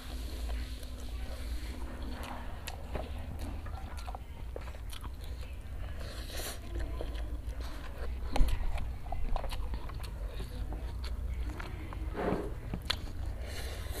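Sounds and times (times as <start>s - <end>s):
man chewing and slurping noodles: 0.0s - 14.0s.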